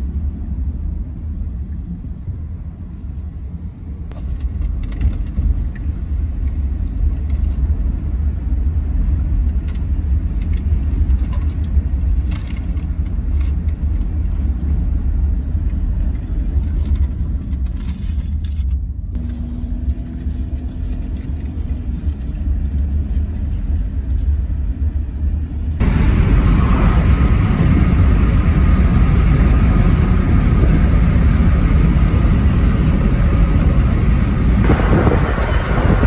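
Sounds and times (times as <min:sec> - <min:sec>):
car road noise rumble: 0:00.0 - 0:36.0.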